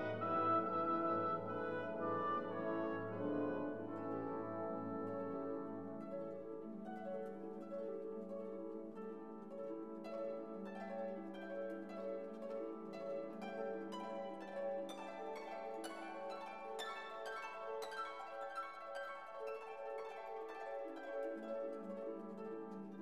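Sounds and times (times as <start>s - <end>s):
plucked strings melody: 0.0s - 23.0s.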